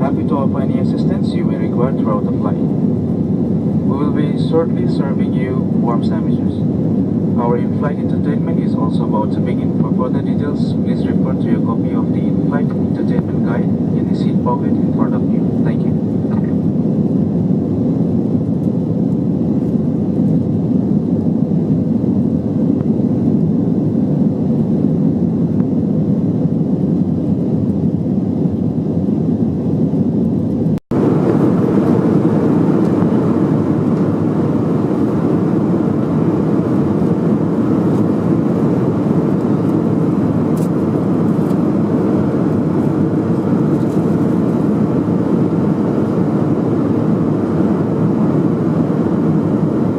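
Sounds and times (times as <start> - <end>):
airplane cabin engine noise: 0.0 - 49.9.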